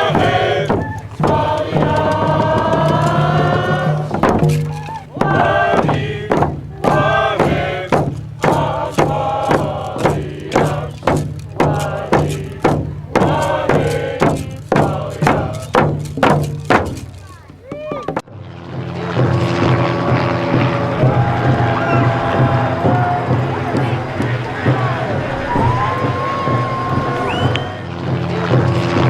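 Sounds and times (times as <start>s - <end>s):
group chanting in unison: 0.0s - 16.0s, 20.0s - 29.0s
steady drum beat: 0.0s - 18.3s, 19.0s - 29.0s.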